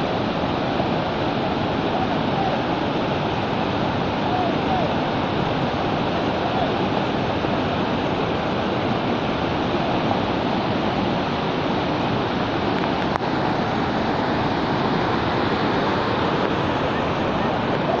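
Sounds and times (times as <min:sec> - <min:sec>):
floodwater rushing and pouring: 0:00.0 - 0:18.0.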